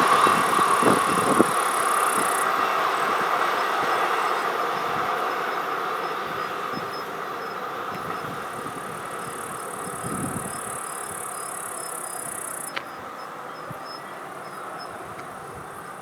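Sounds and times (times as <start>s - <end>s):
high hiss: 0.0s - 16.0s
train rumbling past: 0.0s - 16.0s.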